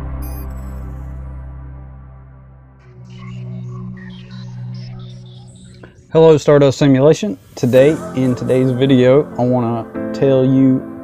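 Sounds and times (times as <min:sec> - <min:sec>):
low droning chord: 0:00.0 - 0:05.0, 0:05.7 - 0:11.0
music with held low note: 0:00.0 - 0:11.0.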